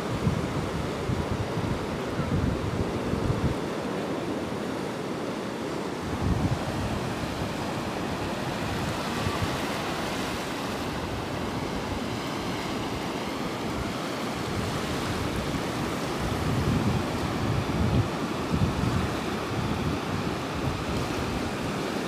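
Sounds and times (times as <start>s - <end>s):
wind buffeting the microphone: 0.0s - 4.1s, 5.5s - 22.0s
surf washing up a sandy beach: 0.0s - 22.0s.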